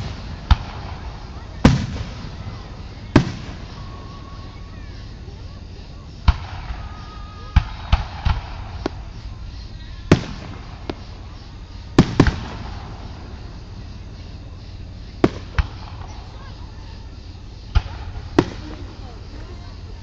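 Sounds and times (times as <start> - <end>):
fireworks bangs: 0.0 - 20.0
low rumble: 0.0 - 20.0.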